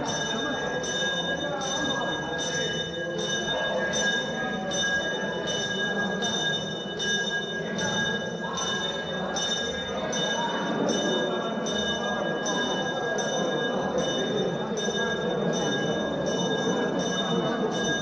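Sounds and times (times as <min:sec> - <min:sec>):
crowd murmur: 0:00.0 - 0:18.0.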